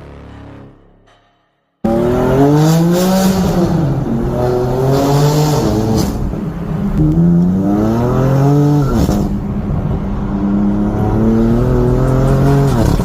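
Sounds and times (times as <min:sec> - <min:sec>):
car engine accelerating hard: 0:01.9 - 0:13.0.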